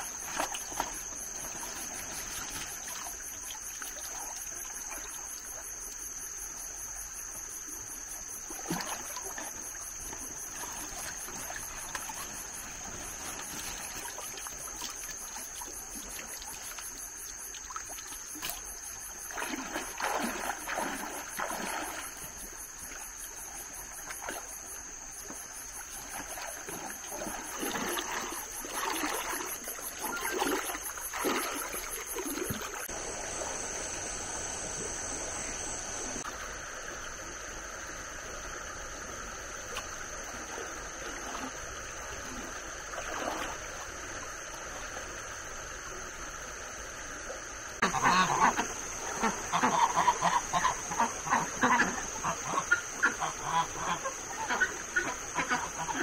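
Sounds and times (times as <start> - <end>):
high-pitched insect chorus: 0.0 - 56.0
water splashing and sloshing: 0.0 - 56.0.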